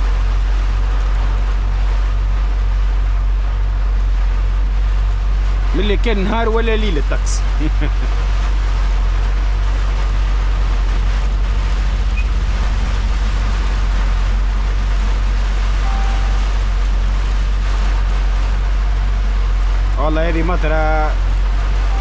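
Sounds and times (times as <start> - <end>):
heavy rain: 0.0 - 22.0
truck engine droning: 0.0 - 22.0.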